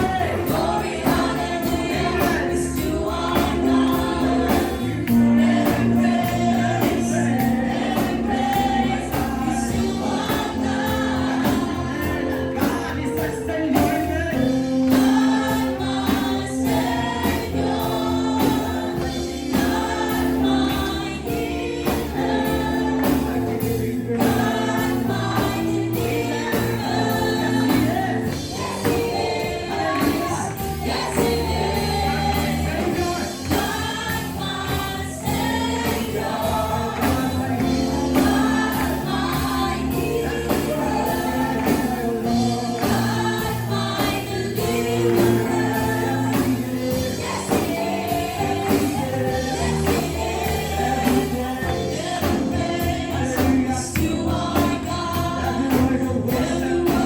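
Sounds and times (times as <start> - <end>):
group singing gospel: 0.0 - 57.0
live band playing: 0.0 - 57.0.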